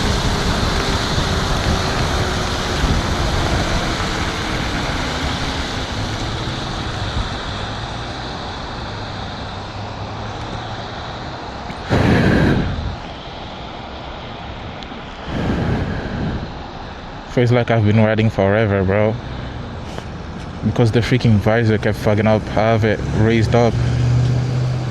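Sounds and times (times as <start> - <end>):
wind and wet road noise: 0.0 - 24.9.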